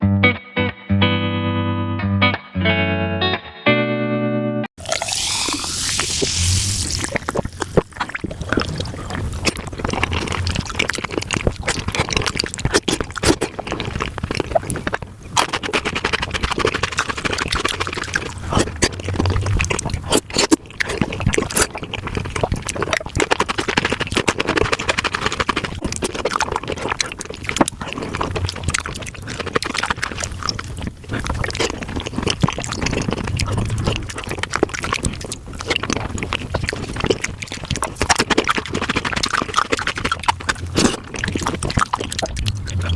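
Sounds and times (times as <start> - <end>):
sped-up chewing and smacking: 4.8 - 42.9.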